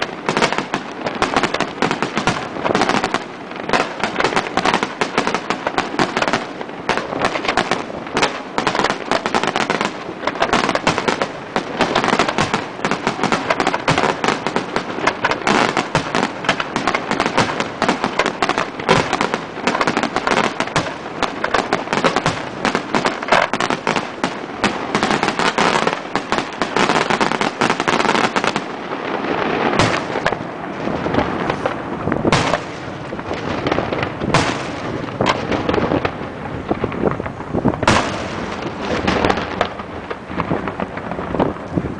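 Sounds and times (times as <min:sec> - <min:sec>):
firecracker crackle: 0:00.0 - 0:41.9
firework bangs: 0:00.0 - 0:41.9.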